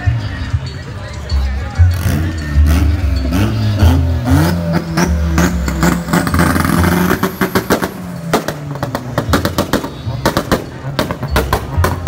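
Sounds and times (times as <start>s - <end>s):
bass-heavy music: 0.0s - 12.0s
car engine revving: 1.8s - 12.0s.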